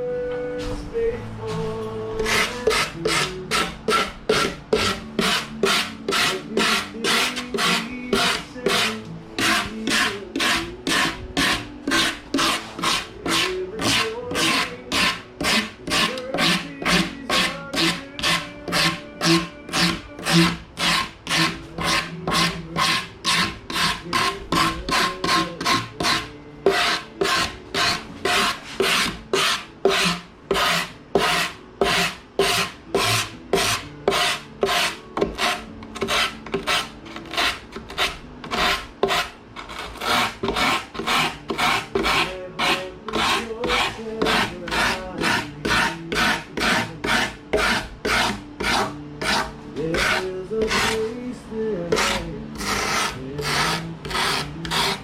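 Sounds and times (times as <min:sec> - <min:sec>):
hand rasp filing strokes: 0:02.2 - 0:51.1, 0:51.9 - 0:55.0.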